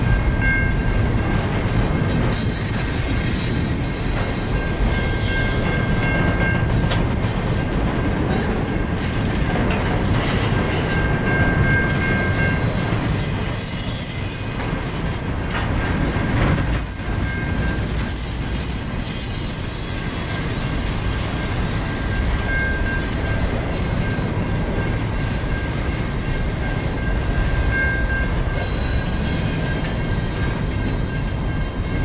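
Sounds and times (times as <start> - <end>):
freight train rolling past: 0.0 - 32.0
train wheels squealing: 0.0 - 32.0.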